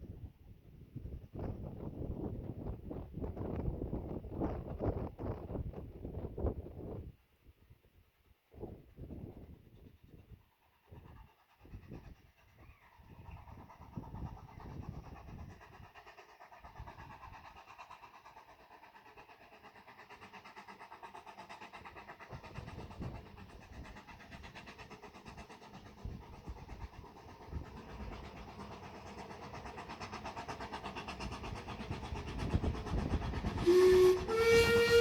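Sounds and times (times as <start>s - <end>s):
steam locomotive chugging: 0.0s - 35.0s.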